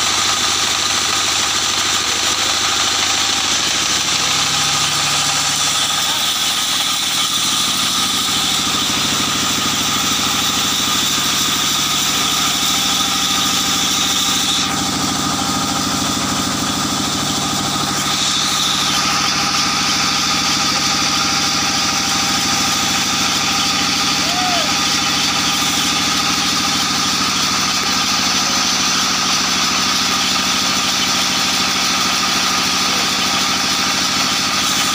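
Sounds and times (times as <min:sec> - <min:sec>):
sawmill machinery drone: 0:00.0 - 0:34.9.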